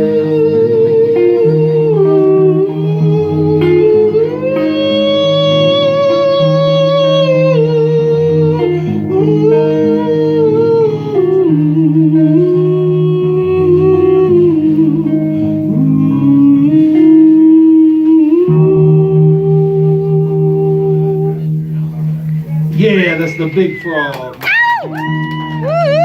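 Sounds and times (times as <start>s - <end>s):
gliding guitar melody: 0.0s - 26.0s.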